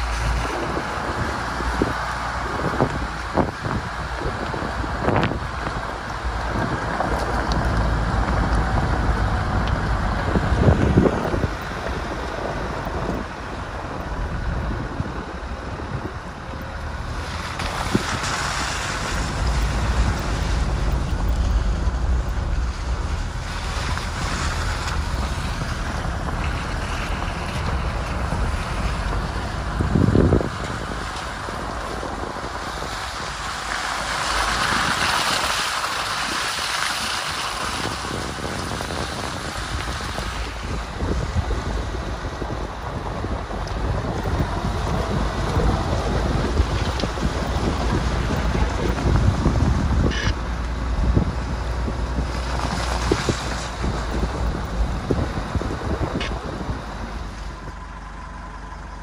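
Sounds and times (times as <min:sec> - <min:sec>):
off-road vehicle engine: 0:00.0 - 0:59.0
wind buffeting microphone: 0:00.0 - 0:59.0.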